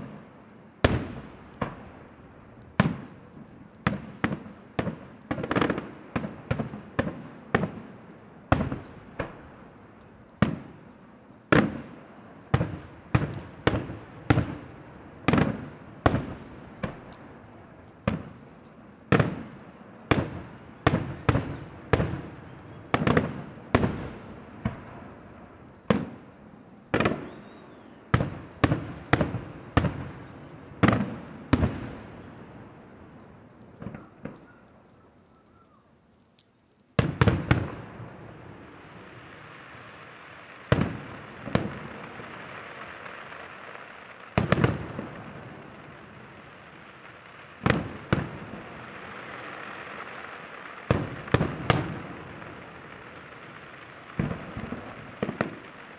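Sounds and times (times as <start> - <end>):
crackling firework stars: 0.0 - 55.9
firework shells bursting: 0.8 - 32.8, 33.6 - 55.9.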